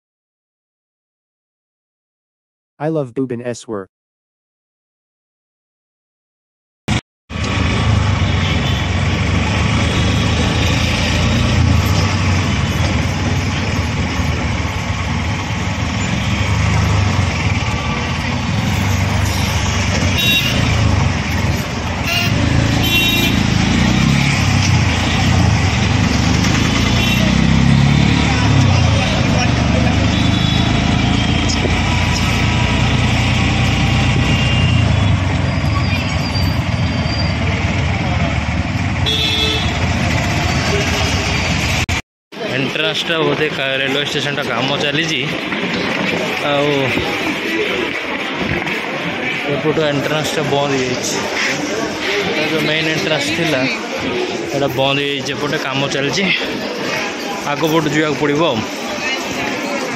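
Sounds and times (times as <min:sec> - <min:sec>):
city traffic hum: 0:06.9 - 0:59.9
road noise: 0:06.9 - 0:59.9.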